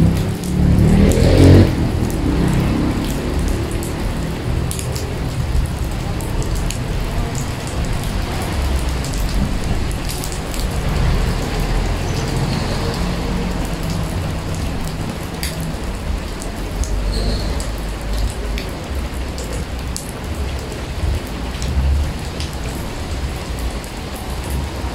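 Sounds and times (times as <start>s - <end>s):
rain hissing: 0.0s - 24.9s.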